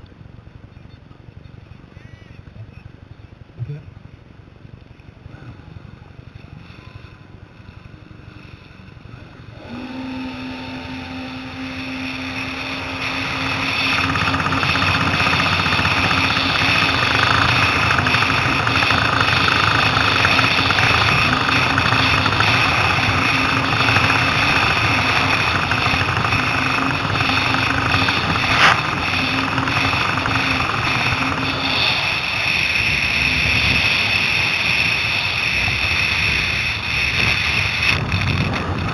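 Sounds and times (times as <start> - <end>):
jet ski engine: 5.2 - 38.9
wind noise: 5.3 - 38.9.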